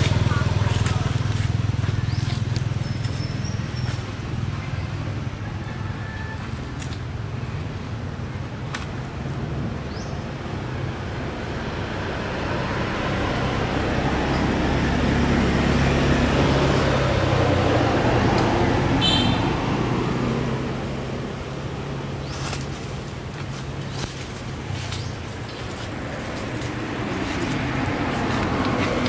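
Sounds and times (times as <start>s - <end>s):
vehicle passing by: 0.0s - 5.8s, 9.4s - 29.0s.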